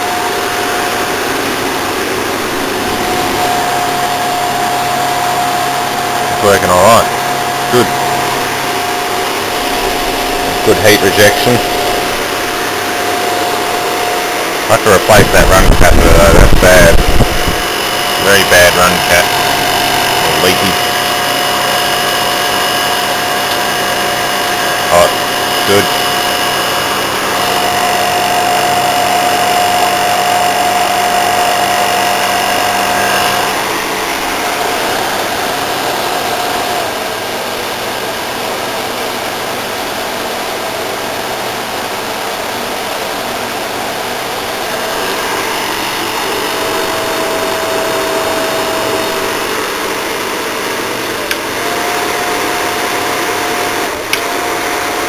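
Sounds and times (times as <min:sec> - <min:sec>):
window air conditioner running: 0:00.0 - 0:55.0.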